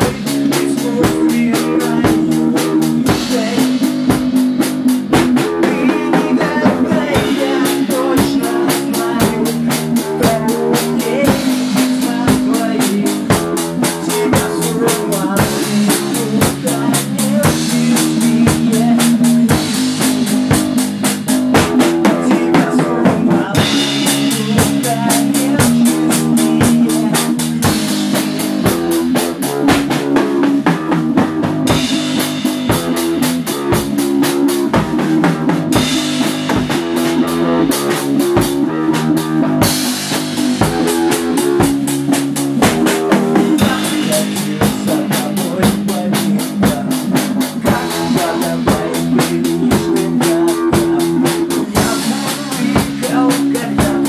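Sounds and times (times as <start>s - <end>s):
drum kit beat: 0.0s - 54.0s
rock band playing: 0.0s - 54.0s.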